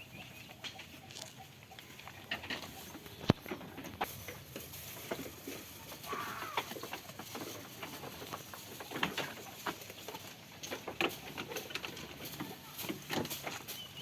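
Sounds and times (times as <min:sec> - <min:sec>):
animals moving with clicks and rustles: 0:00.0 - 0:14.0.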